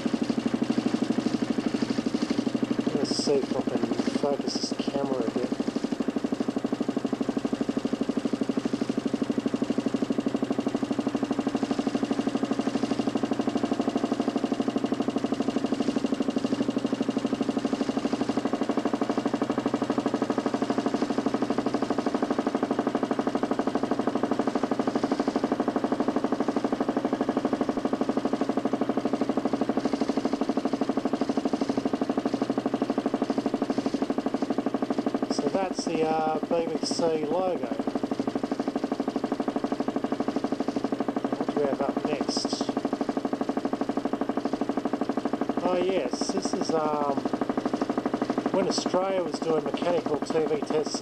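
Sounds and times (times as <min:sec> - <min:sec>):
pulsing motor drone: 0:00.0 - 0:51.0.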